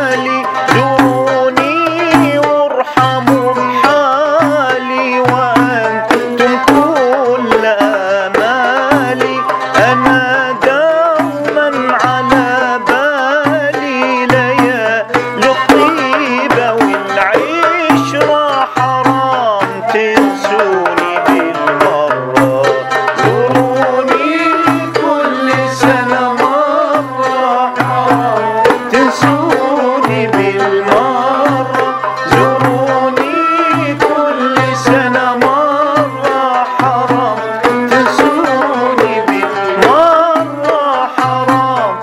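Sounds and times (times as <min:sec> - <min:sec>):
hand drum rhythm: 0:00.0 - 0:42.0
man singing: 0:00.0 - 0:42.0
ney flute: 0:00.0 - 0:42.0
oud: 0:00.0 - 0:42.0.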